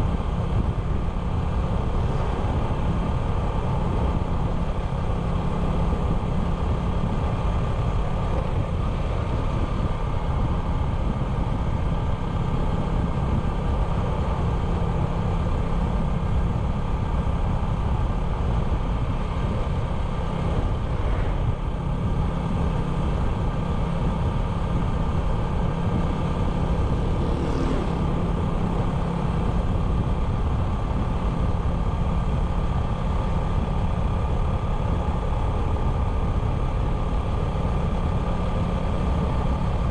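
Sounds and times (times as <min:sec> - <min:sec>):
low road rumble: 0:00.0 - 0:39.9.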